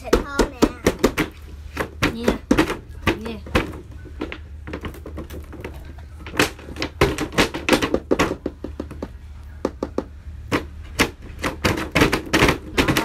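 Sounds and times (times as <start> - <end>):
hand banging on cardboard box: 0.0 - 13.0
steady low hum: 0.0 - 13.0.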